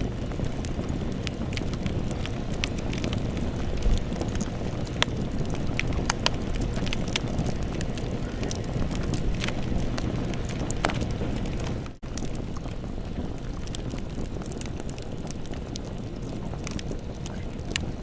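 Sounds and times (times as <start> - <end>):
burning wood crackling and popping: 0.0 - 18.0
campfire rumble: 0.0 - 18.0.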